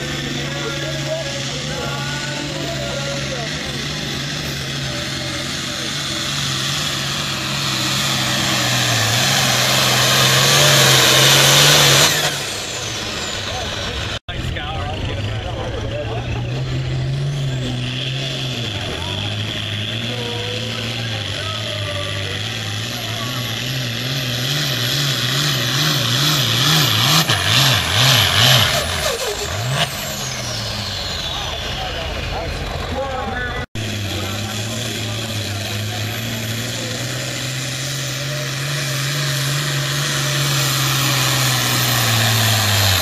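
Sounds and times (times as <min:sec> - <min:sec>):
diesel tractor engine at full throttle: 0:00.0 - 0:43.0.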